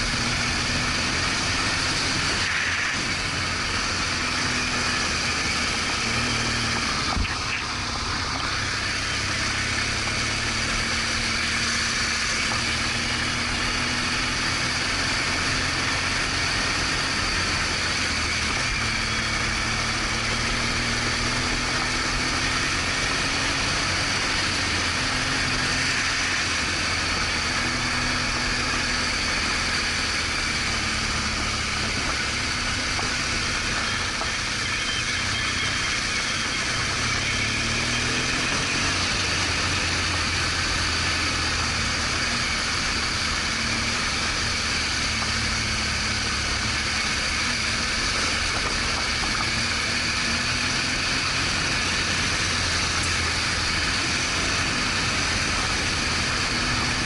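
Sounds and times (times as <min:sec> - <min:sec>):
motorcycle engine running: 0:00.0 - 0:57.0
wind and road noise hiss: 0:00.0 - 0:57.0.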